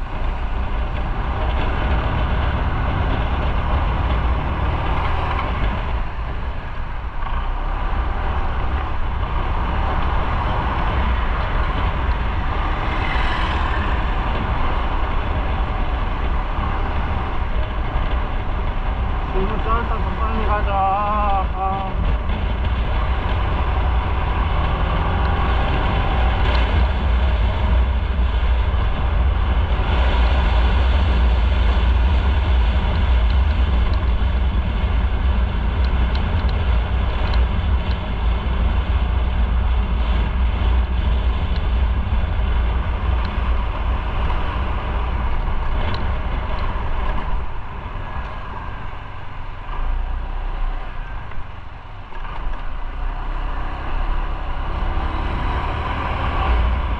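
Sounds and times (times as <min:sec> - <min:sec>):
motorcycle engine rumble: 0:00.0 - 0:56.9
road and wind noise: 0:00.0 - 0:56.9.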